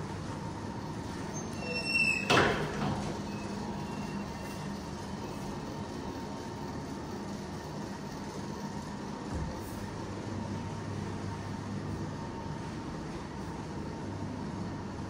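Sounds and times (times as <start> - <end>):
mechanical hum and rumble: 0.0 - 15.0.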